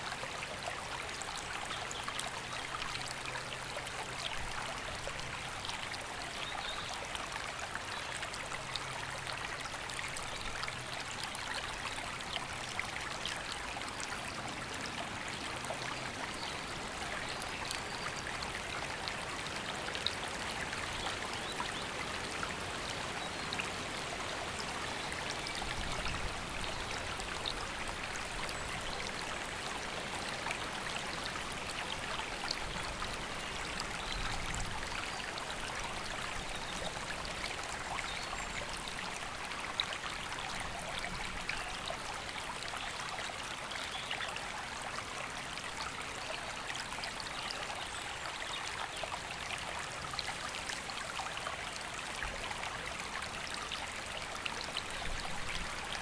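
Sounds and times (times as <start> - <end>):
river water over rocks: 0.0 - 56.0.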